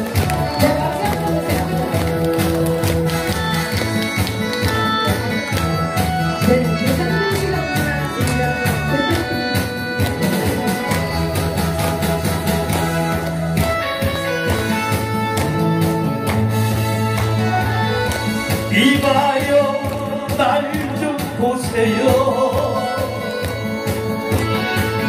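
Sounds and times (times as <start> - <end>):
instrumental backing track: 0.0 - 25.0
pitch-bending lead melody: 0.0 - 25.0.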